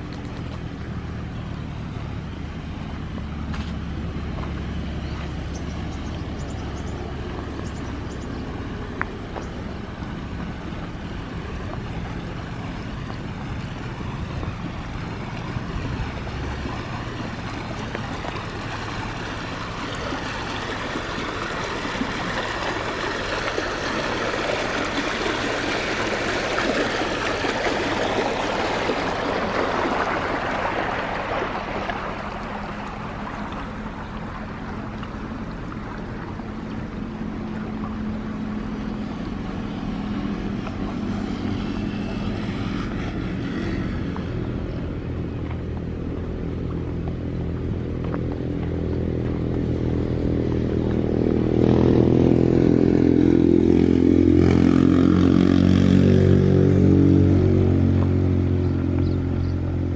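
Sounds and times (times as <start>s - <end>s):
water rushing along a channel: 0.0s - 59.9s.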